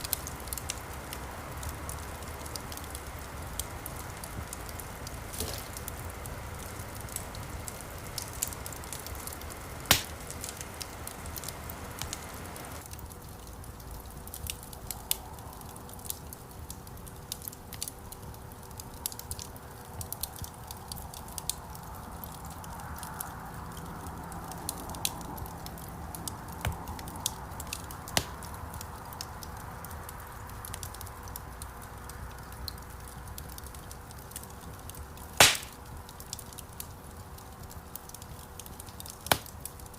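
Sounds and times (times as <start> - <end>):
hiss of burning: 0.0 - 36.9
campfire crackling and popping: 0.0 - 39.9.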